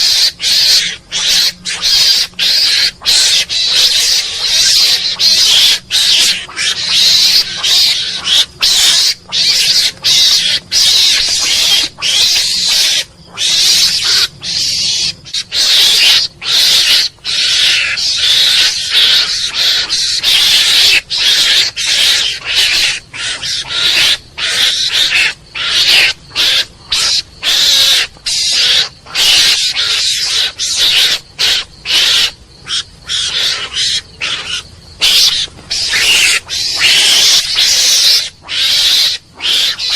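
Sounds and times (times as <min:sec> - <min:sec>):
mongoose calling: 0:00.0 - 0:39.9.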